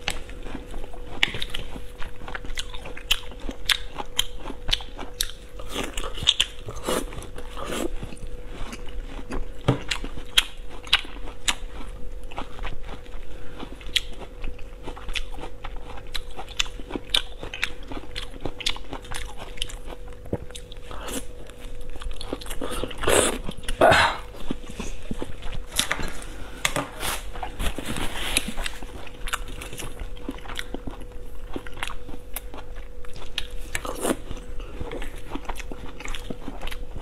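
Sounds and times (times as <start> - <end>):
wet chewing with crunches: 0.0 - 37.0.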